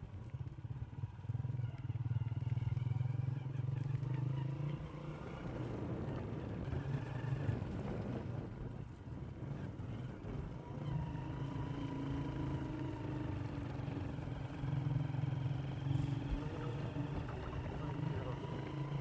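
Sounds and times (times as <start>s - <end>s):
vehicle engine driving on dirt road: 0.0s - 19.0s.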